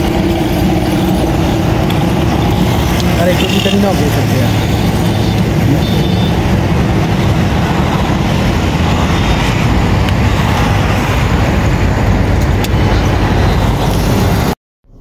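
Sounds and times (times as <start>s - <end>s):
road traffic noise: 0.0s - 15.0s
vehicle engines humming: 0.0s - 15.0s.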